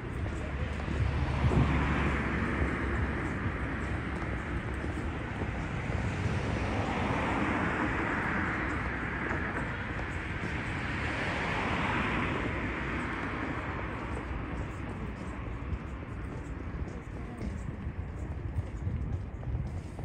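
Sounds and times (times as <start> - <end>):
road traffic rushing: 0.0 - 20.0
vehicles passing close by: 0.0 - 20.0.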